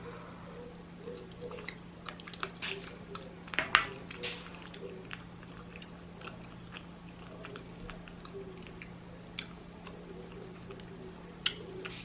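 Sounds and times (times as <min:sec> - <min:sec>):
chewing food: 0:00.0 - 0:12.0
low hum: 0:00.0 - 0:12.0
wet mouth clicks and smacks: 0:00.7 - 0:12.0.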